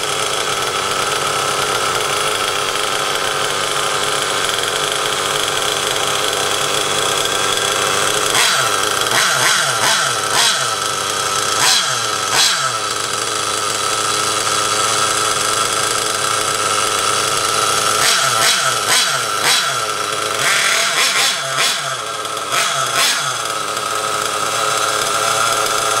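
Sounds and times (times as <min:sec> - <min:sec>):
engine throttle blips: 0:00.0 - 0:26.0
nitro engine buzzy idle: 0:00.0 - 0:26.0.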